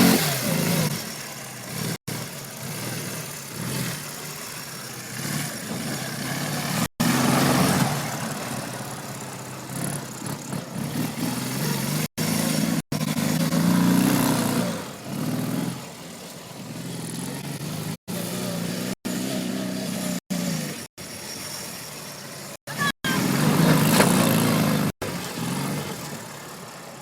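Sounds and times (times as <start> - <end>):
motorcycle engine revving: 0.0 - 26.5
wheels spinning in dirt: 0.0 - 27.0.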